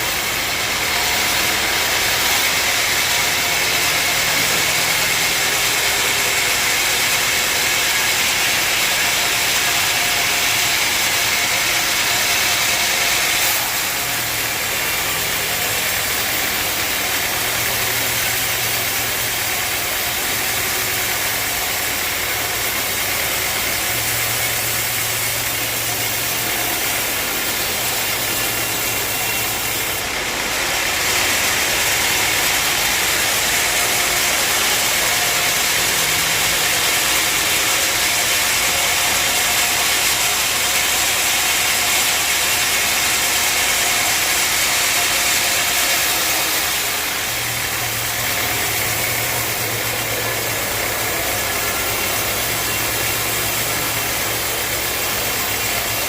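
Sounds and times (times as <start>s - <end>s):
sawmill machine humming: 0.0s - 56.0s.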